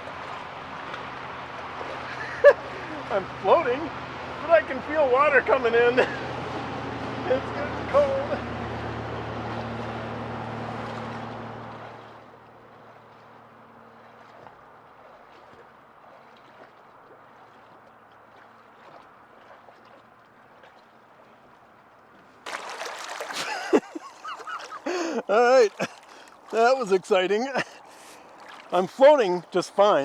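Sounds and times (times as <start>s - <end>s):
water splash: 0.0s - 2.9s, 7.4s - 21.4s, 22.4s - 30.0s
water drips and trickles: 0.0s - 5.4s, 6.4s - 30.0s
water sloshing and gurgling: 0.0s - 30.0s.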